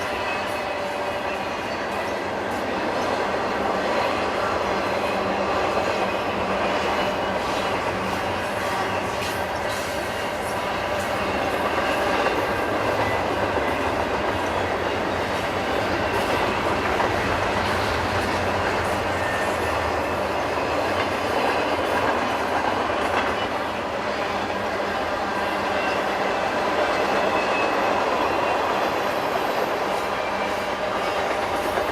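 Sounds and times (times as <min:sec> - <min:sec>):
freight train rolling past: 0:00.0 - 0:31.9
train wheels rattling on rails: 0:00.0 - 0:31.9.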